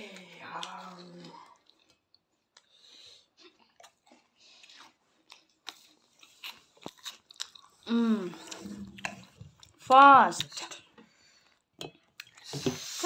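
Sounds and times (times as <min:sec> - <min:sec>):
people chewing crunchy snacks: 0:00.0 - 0:13.0.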